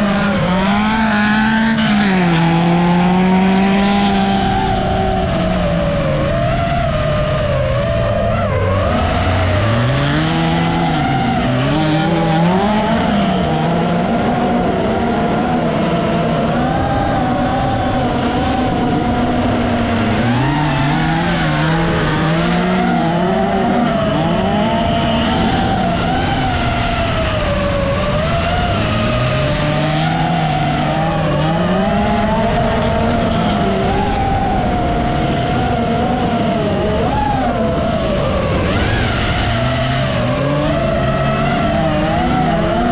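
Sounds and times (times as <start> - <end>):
race car engines revving: 0.0 - 42.9.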